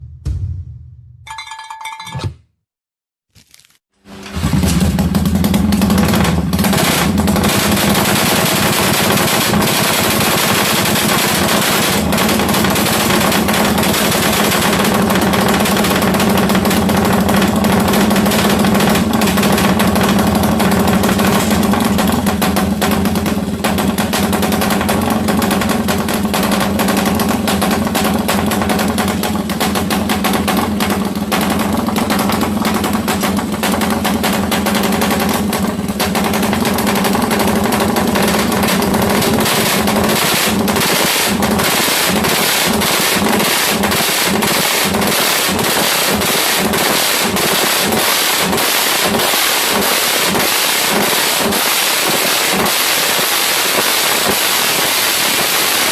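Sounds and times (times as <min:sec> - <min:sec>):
motorcycle engine running: 0:04.0 - 0:55.9.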